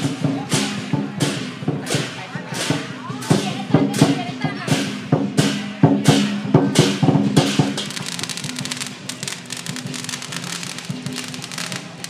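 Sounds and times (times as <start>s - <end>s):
drum and cymbal strokes: 0.0s - 12.0s
firecrackers crackling: 0.0s - 12.0s.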